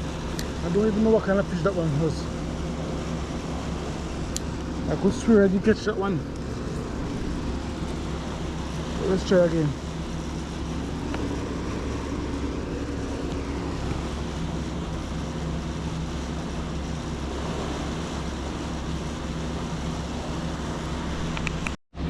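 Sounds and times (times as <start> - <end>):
low hum: 0.0 - 22.0
outdoor background rush: 0.0 - 22.0.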